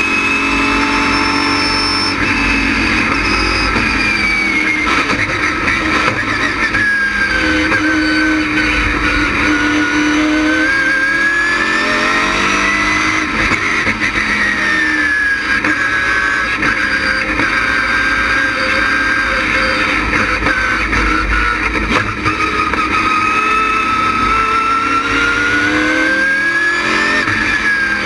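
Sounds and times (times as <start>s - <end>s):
race car engine at speed: 0.0s - 28.0s.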